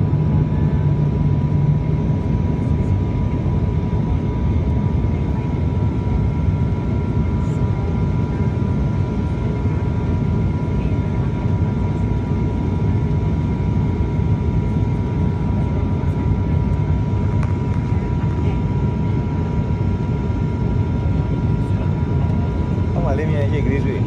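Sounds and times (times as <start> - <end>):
propeller engine drone: 0.0 - 24.0.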